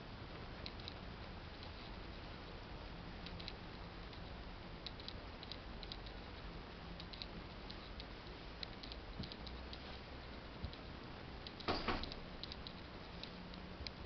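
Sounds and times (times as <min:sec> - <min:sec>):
low hiss and hum: 0:00.0 - 0:14.0.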